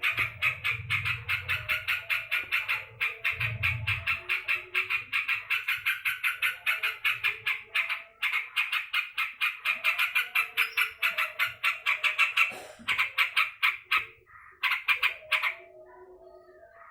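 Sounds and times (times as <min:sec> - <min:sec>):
bird harsh chattering calls: 0:00.0 - 0:15.8.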